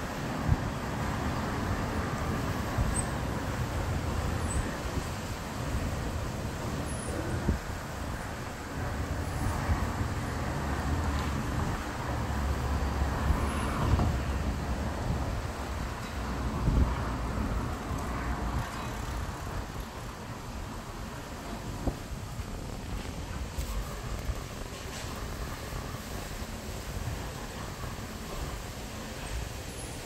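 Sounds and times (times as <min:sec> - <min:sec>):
city traffic hum: 0:00.0 - 0:30.0
wind gusting over microphone: 0:00.0 - 0:30.0.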